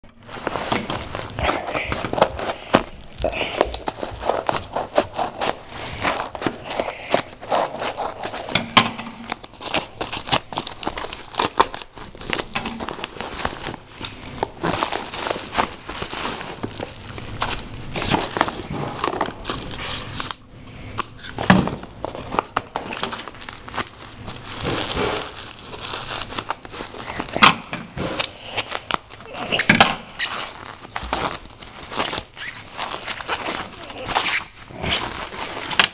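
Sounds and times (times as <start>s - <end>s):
packaging crumpled and torn: 0.2s - 35.9s.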